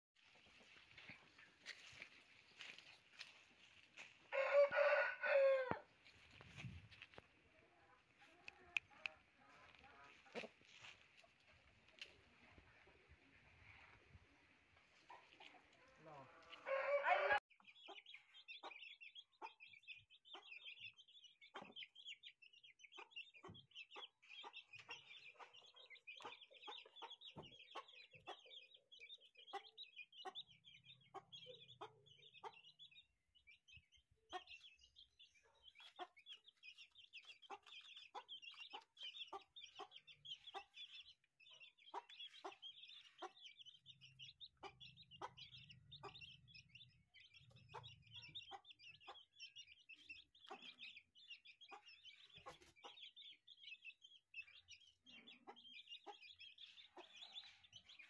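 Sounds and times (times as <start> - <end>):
chicks peeping: 0.3 - 58.0.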